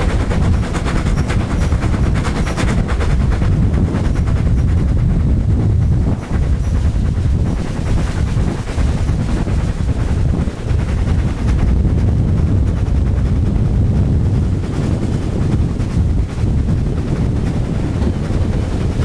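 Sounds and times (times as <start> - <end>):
train rumbling on track: 0.0 - 19.0
wind buffeting microphone: 0.0 - 19.0.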